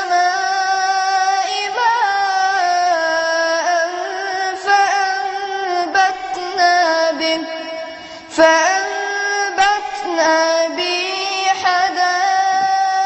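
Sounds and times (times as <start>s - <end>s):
boy chanting recitation: 0.0s - 13.0s.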